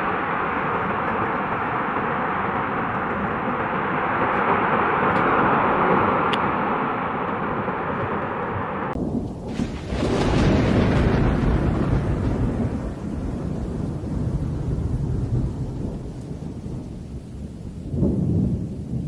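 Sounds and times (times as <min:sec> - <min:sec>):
deep rumbling noise: 0:00.0 - 0:19.0.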